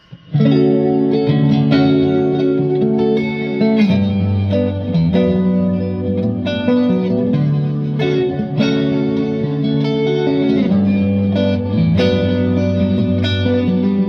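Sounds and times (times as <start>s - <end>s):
electric guitar ringing chords: 0.0s - 14.0s.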